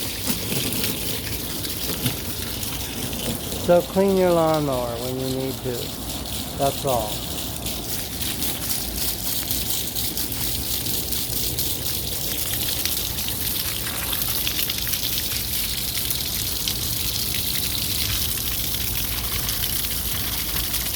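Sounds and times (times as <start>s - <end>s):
water spraying onto lawn mower: 0.0s - 20.9s.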